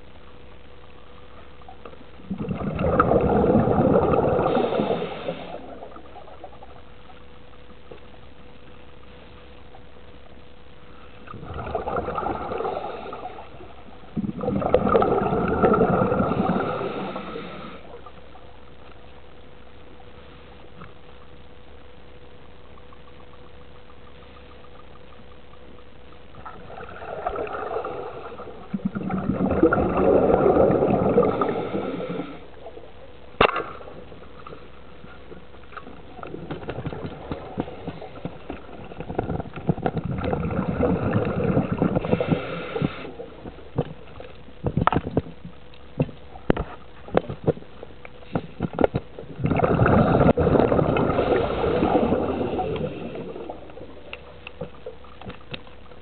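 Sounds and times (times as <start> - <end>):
faint steady hum: 0.0 - 56.0
underwater bubbles gurgling: 0.0 - 56.0.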